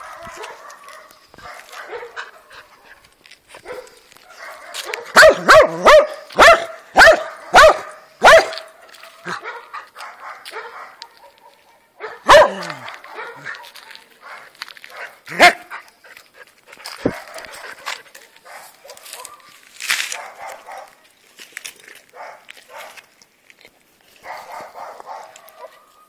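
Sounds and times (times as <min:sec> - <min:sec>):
dog barking: 0:00.0 - 0:02.8, 0:03.6 - 0:15.8, 0:17.0 - 0:21.0, 0:22.1 - 0:23.0, 0:24.2 - 0:26.0.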